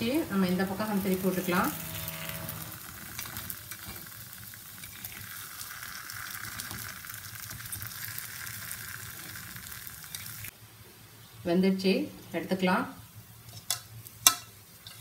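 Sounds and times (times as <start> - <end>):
oil sizzling and crackling: 0.0 - 10.6, 13.1 - 15.0.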